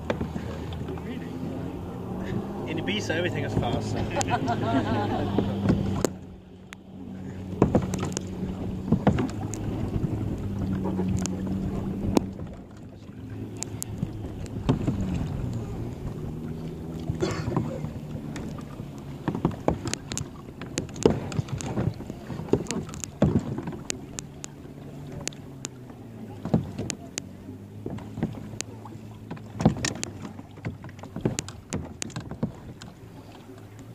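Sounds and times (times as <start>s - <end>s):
paddles and plastic hulls knocking: 0.0s - 1.1s, 2.8s - 6.9s, 7.5s - 33.9s
low engine hum: 0.0s - 33.9s.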